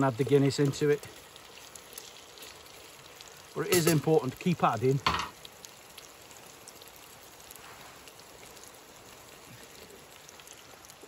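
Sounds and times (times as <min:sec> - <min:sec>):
meat sizzling in oil: 0:00.0 - 0:11.0
small crackles: 0:00.0 - 0:11.0.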